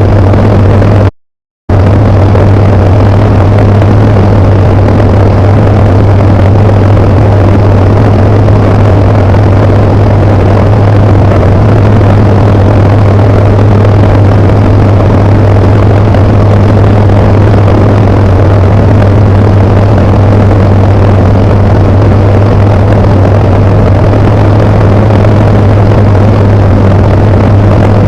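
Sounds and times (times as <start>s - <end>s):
light aircraft engine drone: 0.0s - 1.1s, 1.7s - 28.0s.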